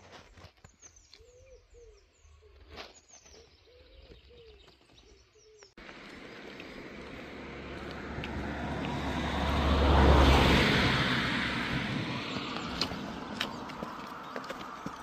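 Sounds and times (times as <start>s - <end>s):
songbirds chirping: 0.2s - 15.0s.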